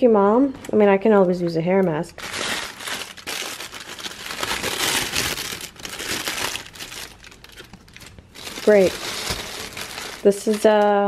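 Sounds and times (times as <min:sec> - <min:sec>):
plastic bag crinkling: 0:02.0 - 0:11.0.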